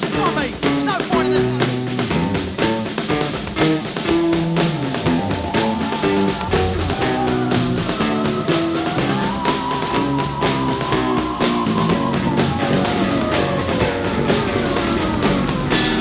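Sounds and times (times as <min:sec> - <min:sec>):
rock band instrumental: 0:00.0 - 0:16.0.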